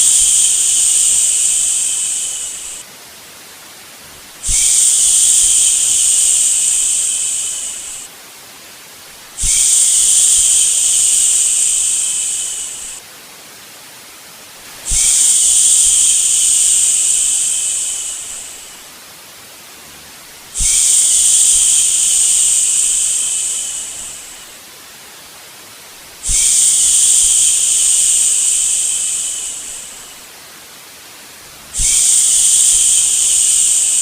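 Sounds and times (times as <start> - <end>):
steady white noise hiss: 0.0 - 34.0.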